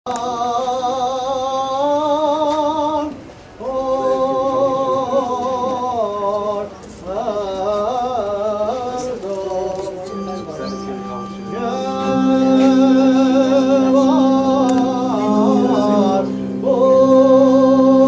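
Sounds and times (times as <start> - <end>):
a cappella hymn singing: 0.1 - 18.0.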